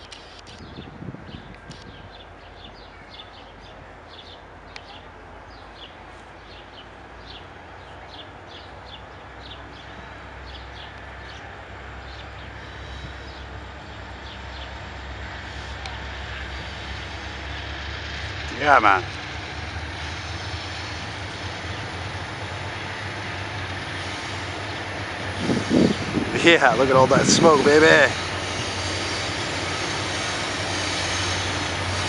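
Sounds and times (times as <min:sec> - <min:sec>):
locomotive engine rumble: 0:00.0 - 0:32.0
birds chirping: 0:00.4 - 0:32.0.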